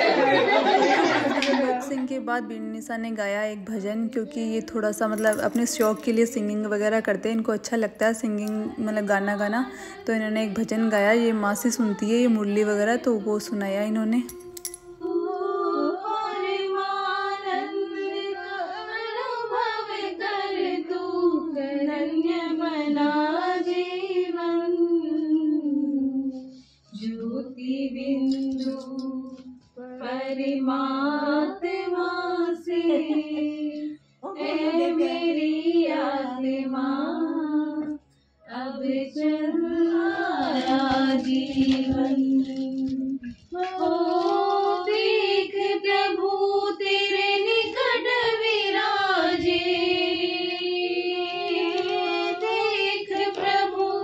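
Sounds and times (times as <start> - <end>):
woman singing devotional song: 0.1 - 54.0.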